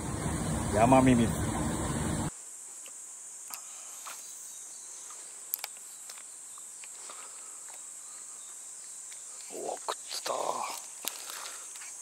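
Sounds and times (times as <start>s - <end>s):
cicadas singing: 0.0s - 12.0s.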